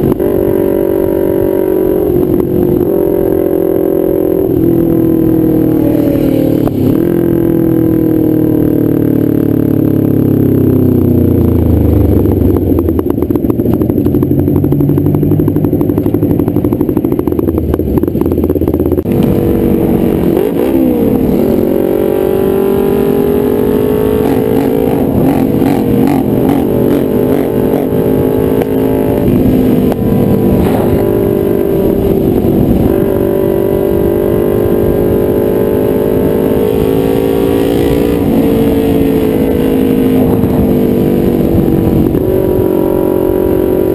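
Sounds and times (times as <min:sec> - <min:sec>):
motorcycle engine running loud: 0:00.0 - 0:43.9.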